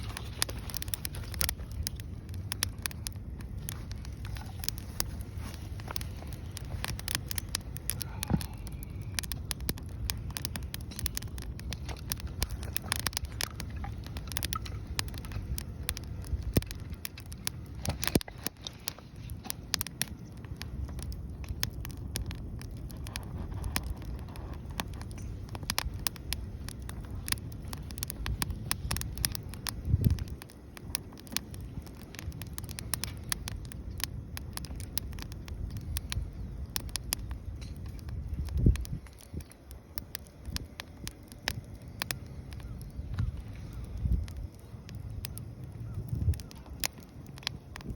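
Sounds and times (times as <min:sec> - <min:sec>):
low steady rumble: 0:00.0 - 0:47.9
wood fire crackling and popping: 0:00.0 - 0:47.9.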